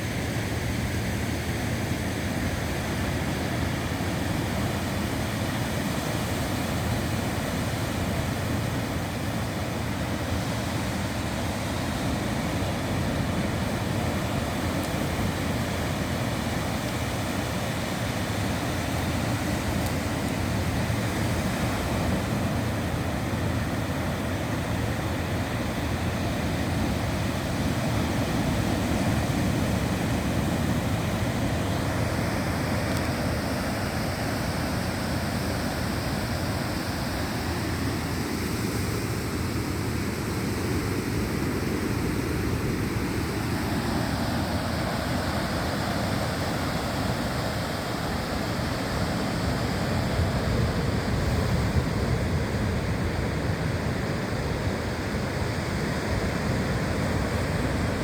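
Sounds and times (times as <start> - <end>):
ocean surf roaring: 0.0 - 58.0
wind: 0.0 - 58.0.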